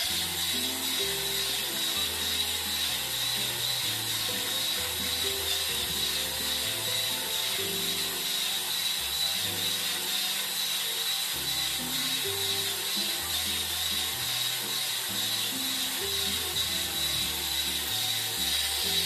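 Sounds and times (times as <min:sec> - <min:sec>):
background music: 0:00.0 - 0:19.0
coffee grinder whining: 0:00.0 - 0:19.0.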